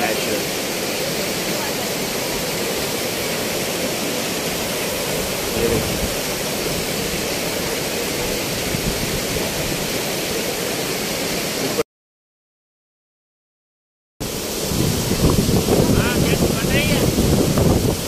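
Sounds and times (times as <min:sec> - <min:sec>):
waterfall crashing onto rocks: 0:00.0 - 0:11.8, 0:14.2 - 0:18.0.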